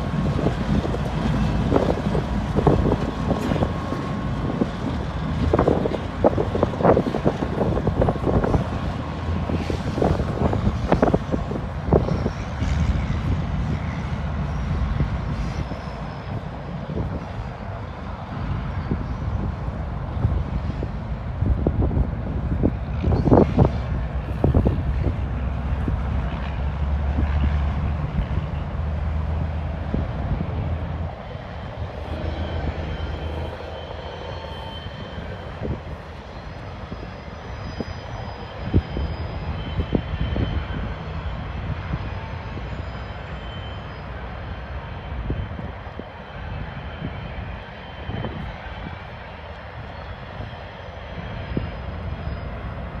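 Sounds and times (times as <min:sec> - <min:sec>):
wind buffeting microphone: 0:00.0 - 0:43.2, 0:44.1 - 0:53.0
diesel locomotive engine drone: 0:00.0 - 0:53.0.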